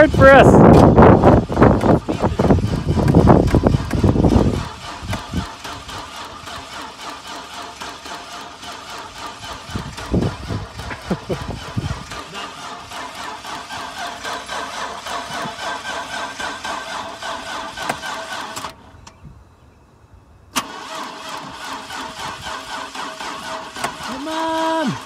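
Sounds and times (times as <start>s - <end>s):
starter cranking engine: 0.0s - 19.0s, 20.6s - 25.0s.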